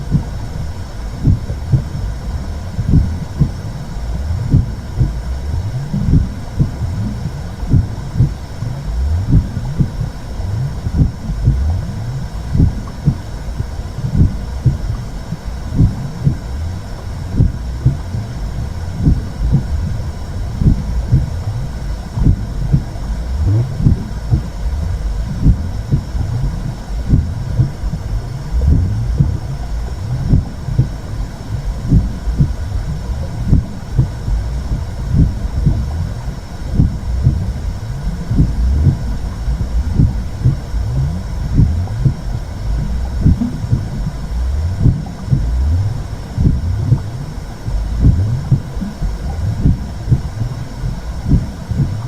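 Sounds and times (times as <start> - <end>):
muffled whooshing heartbeat rumble: 0.0 - 52.0.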